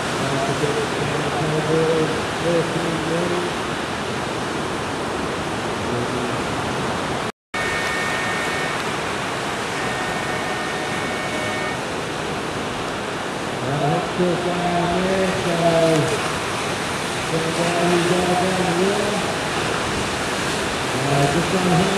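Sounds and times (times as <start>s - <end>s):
ocean surf breaking: 0.0s - 21.9s.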